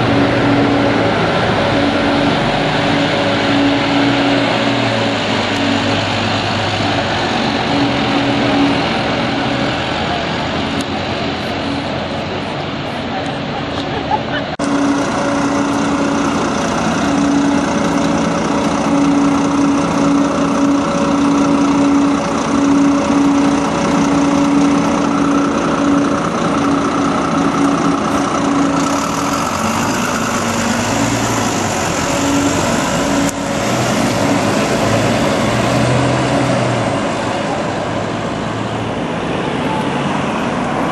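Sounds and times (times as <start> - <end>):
bus engine whine: 0.0 - 40.9.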